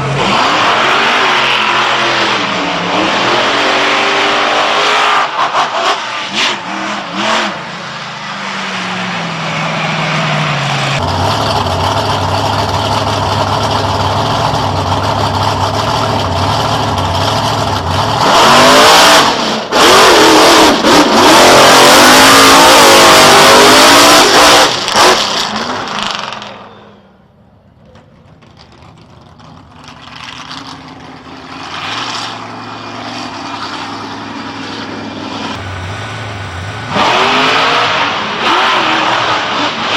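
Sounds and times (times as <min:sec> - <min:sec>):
monster truck engine revving: 0:00.0 - 0:26.7, 0:28.7 - 0:39.9.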